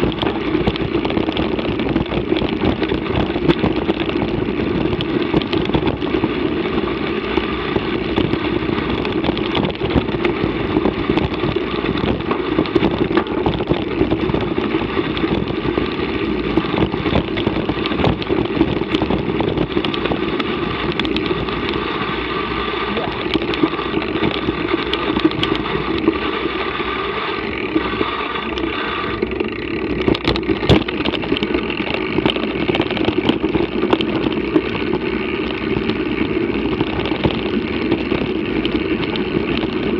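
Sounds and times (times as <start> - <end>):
bike rattles and knocks: 0.0 - 39.9
rumble of wind and tyres: 0.0 - 39.9.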